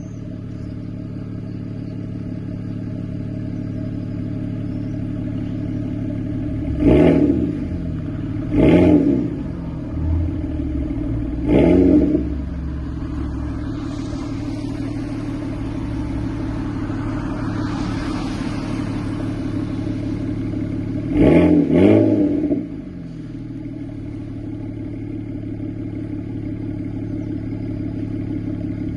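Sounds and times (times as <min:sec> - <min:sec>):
car engine idling and revving: 0:00.0 - 0:28.9.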